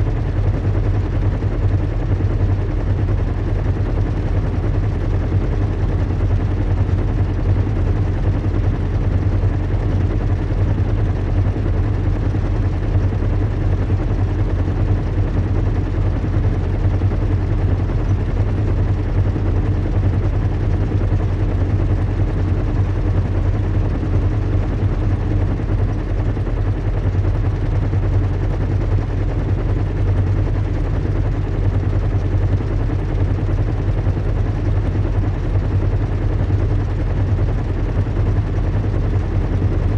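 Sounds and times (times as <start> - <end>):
airship low hum: 0.0 - 39.9.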